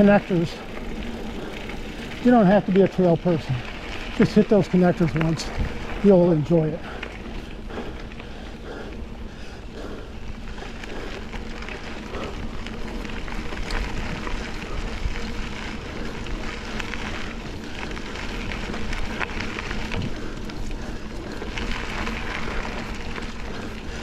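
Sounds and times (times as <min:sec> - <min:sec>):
bike tyres on dirt trail: 0:00.0 - 0:24.0
wind rumbling on microphone: 0:03.2 - 0:24.0.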